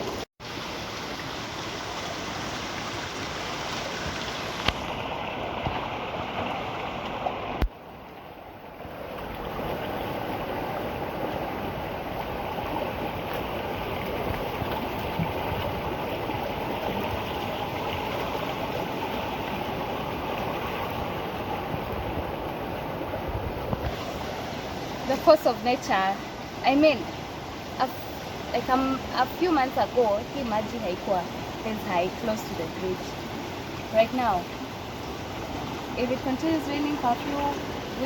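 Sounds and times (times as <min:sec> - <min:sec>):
river rushing: 0:00.0 - 0:38.0.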